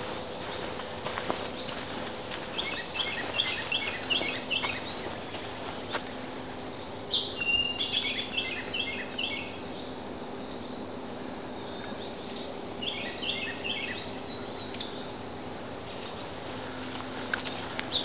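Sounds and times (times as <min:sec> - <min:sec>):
faint steady hum: 0:00.0 - 0:18.0
songbird singing: 0:00.0 - 0:18.0.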